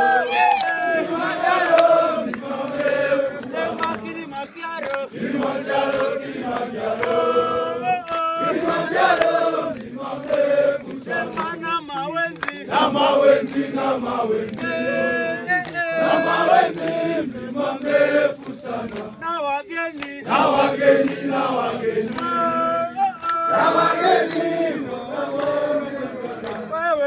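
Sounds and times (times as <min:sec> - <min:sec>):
men chanting in unison: 0:00.0 - 0:27.0.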